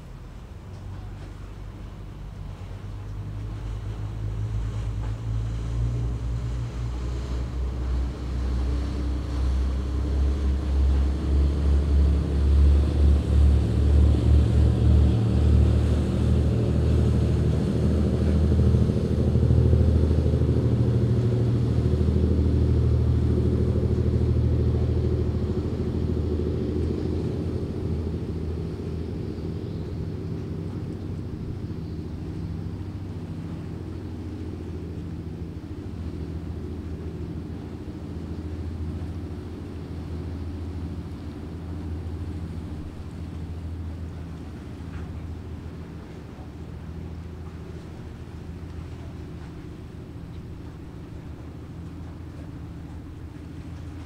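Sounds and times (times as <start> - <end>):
passing boat diesel engine rumble: 0.0 - 54.0.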